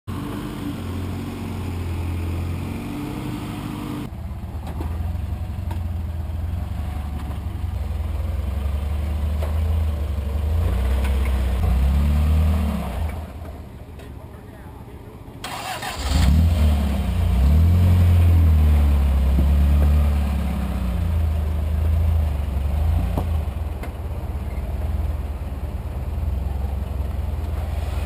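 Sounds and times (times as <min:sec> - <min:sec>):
pickup engine running under load: 0:00.1 - 0:28.0.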